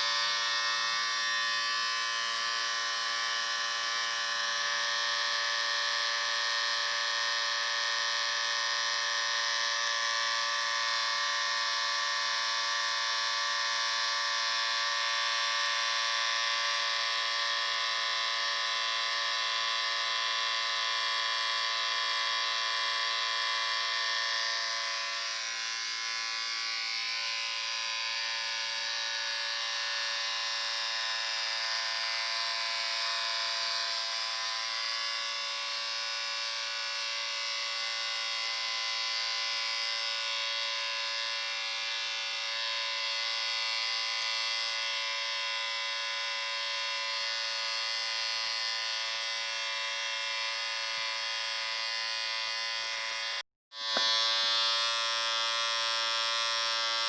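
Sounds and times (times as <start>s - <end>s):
electric shaver buzzing: 0.0s - 57.0s.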